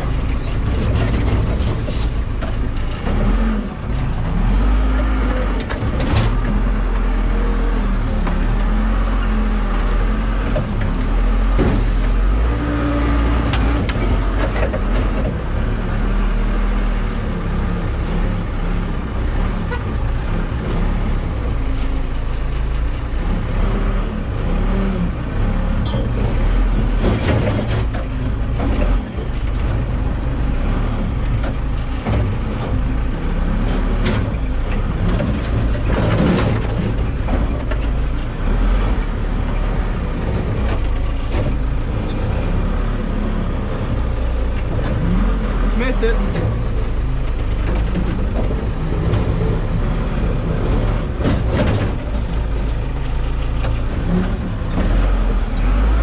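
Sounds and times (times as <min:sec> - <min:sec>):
diesel engine working hard: 0:00.0 - 0:56.0.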